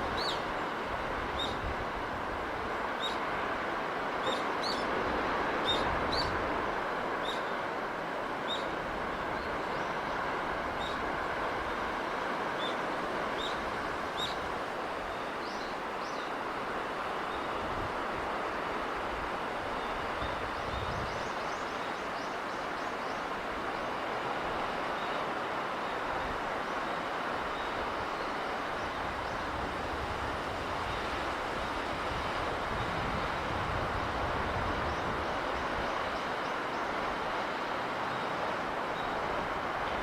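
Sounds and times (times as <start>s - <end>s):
sea breeze rushing: 0.0s - 40.0s.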